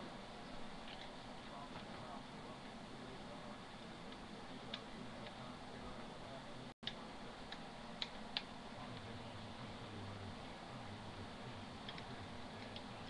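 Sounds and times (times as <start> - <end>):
low room hum and hiss: 0.0 - 13.0.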